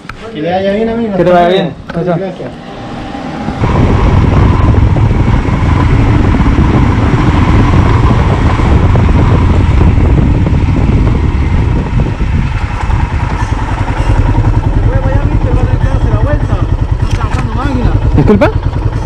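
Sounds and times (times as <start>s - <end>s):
rushing road and wind noise: 0.0s - 19.0s
motorcycle engine running: 0.8s - 19.0s.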